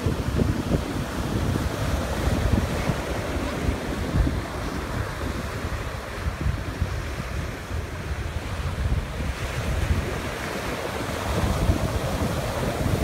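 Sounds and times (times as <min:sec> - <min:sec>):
ocean surf breaking on beach: 0:00.0 - 0:13.0
wind buffeting microphone: 0:00.0 - 0:13.0.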